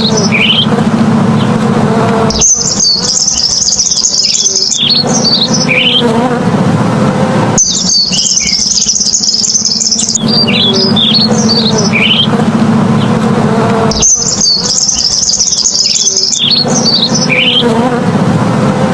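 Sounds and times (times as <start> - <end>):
bird twittering trill: 0.0 - 6.3, 7.6 - 18.0
steady low buzz: 0.0 - 18.9.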